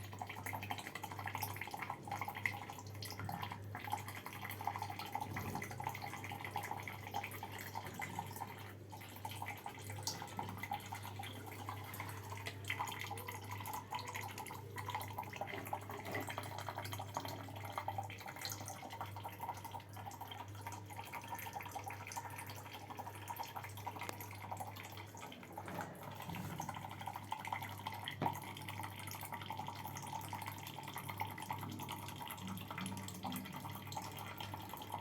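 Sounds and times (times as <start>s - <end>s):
water dripping and trickling: 0.0s - 35.0s.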